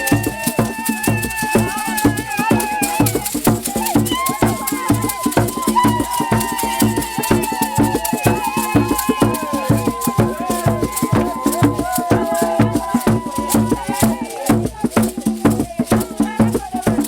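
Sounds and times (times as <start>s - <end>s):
held melody line: 0.0s - 14.5s
low drum beat: 0.0s - 17.0s
shaken rattles: 0.0s - 17.0s.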